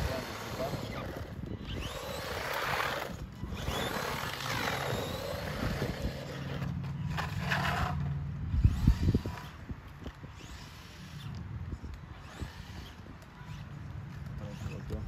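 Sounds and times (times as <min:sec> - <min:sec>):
toy truck motors whining: 0:00.0 - 0:15.0.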